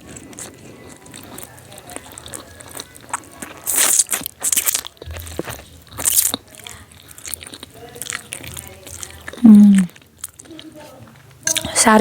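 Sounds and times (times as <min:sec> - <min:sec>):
person eating noodles: 0:00.0 - 0:11.8
soft chewing: 0:00.0 - 0:12.0.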